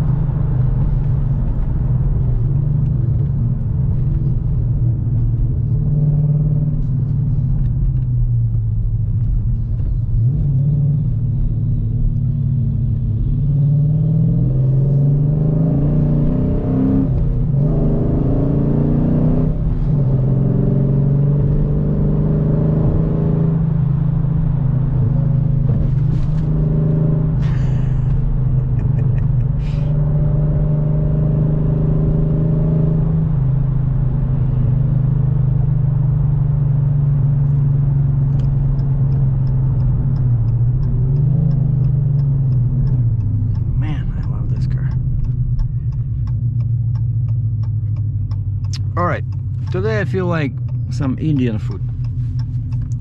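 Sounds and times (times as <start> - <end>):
car engine droning while driving: 0.0 - 53.0.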